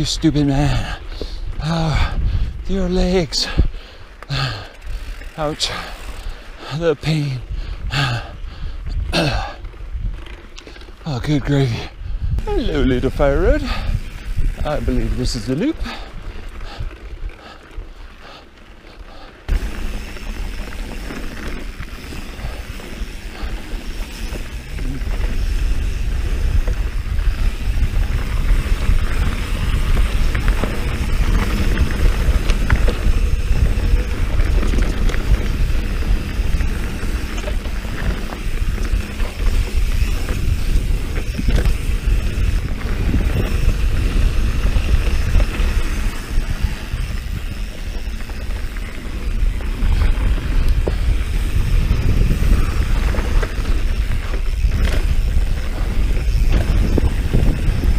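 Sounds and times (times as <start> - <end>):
wind buffeting microphone: 0.0 - 18.1, 19.5 - 57.9
bike tyre noise: 0.0 - 57.9.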